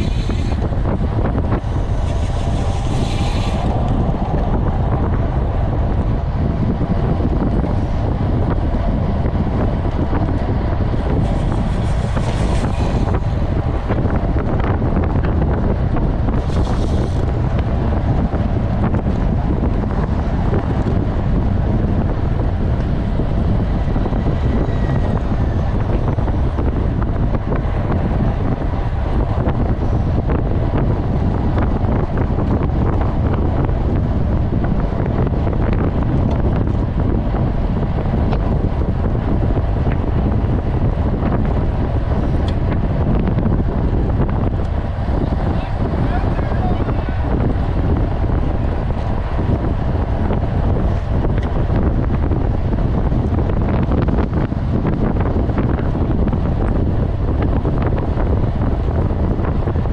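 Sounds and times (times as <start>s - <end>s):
road and tyre rumble: 0.0s - 59.9s
wind buffeting microphone: 0.0s - 59.9s.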